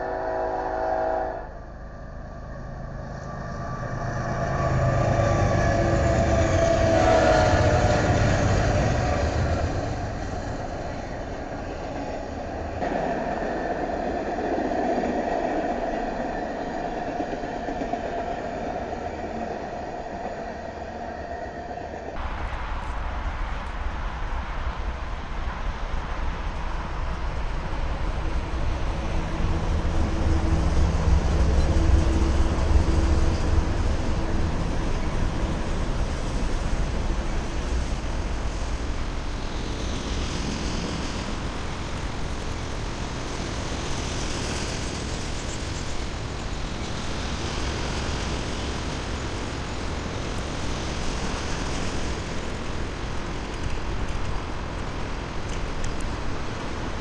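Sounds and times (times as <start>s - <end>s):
diesel locomotive engine passing: 0.0s - 57.0s
rumble of flatcars rolling: 5.2s - 57.0s.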